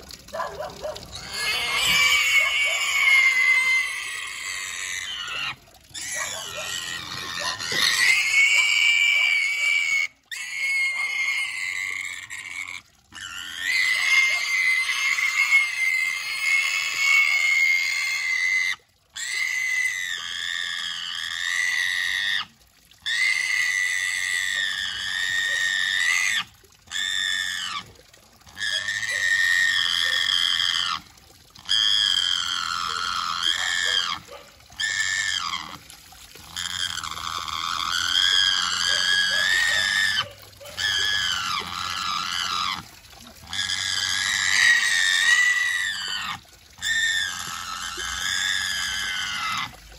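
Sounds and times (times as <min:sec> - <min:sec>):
pig squealing shrilly: 0:00.0 - 0:49.9
water dousing: 0:00.0 - 0:49.9.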